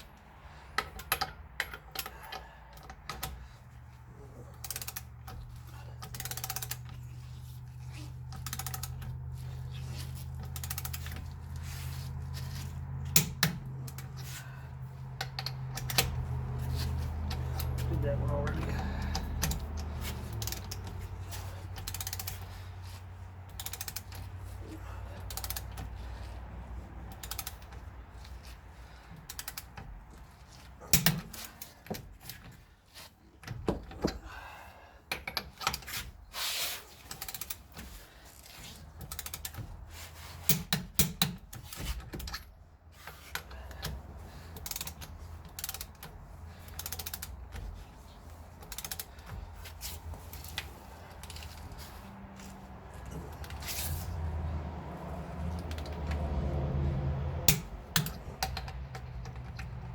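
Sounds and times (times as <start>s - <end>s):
hand ratchet clicking: 0.7s - 3.6s, 4.5s - 11.6s, 12.2s - 32.6s, 35.1s - 52.7s, 55.4s - 59.9s.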